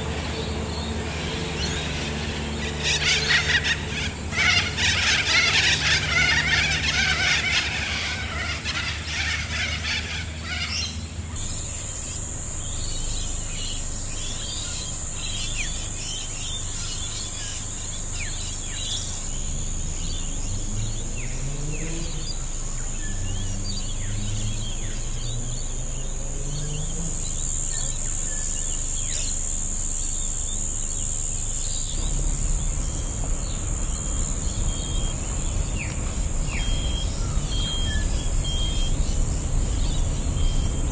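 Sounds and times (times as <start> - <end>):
insects droning: 0.0 - 40.9
low wavering hum: 0.0 - 40.9
bird chirps: 0.4 - 40.9.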